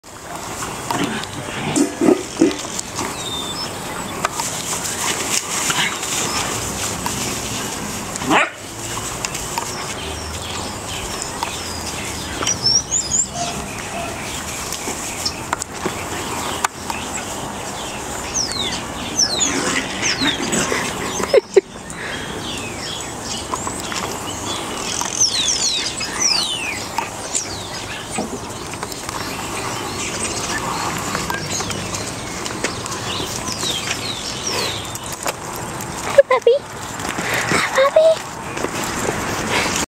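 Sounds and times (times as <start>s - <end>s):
steady outdoor hiss: 0.0s - 39.9s
small birds chirping: 0.4s - 39.8s.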